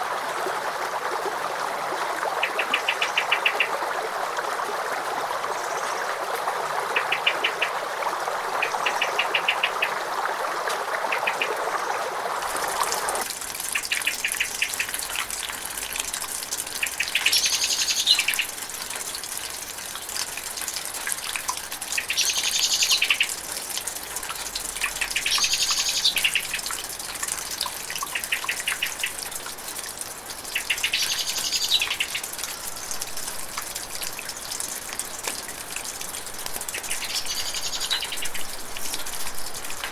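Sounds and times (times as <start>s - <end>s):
running stream water: 0.0s - 39.9s.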